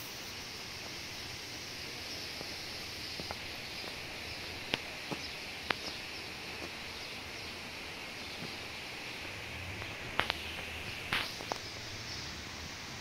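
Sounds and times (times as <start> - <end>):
even high hiss: 0.0 - 13.0.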